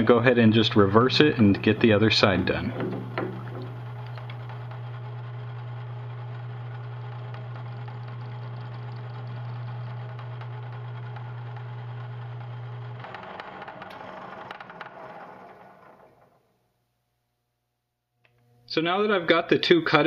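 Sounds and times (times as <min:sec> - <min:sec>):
metal lathe humming: 0:00.0 - 0:16.2
lathe spindle rattling: 0:00.0 - 0:16.4.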